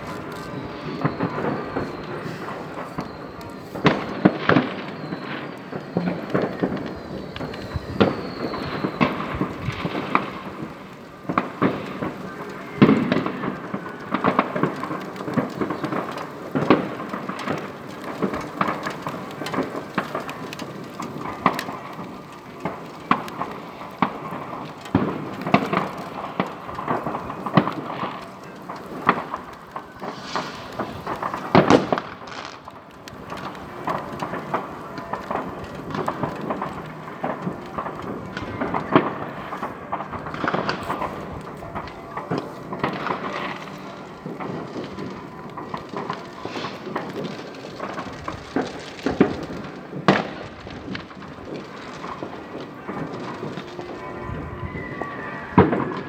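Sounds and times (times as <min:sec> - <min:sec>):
fireworks bangs and crackling: 0:00.0 - 0:56.0
loud sharp firework bangs: 0:00.0 - 0:56.0.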